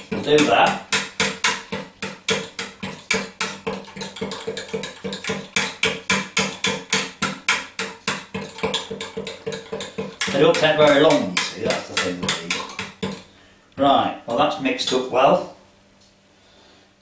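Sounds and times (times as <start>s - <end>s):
batter beaten in bowl: 0.0s - 13.3s, 14.7s - 15.2s.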